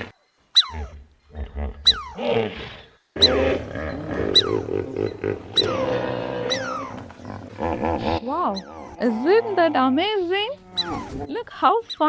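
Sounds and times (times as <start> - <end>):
rough growling animal calls: 0.0 - 12.0.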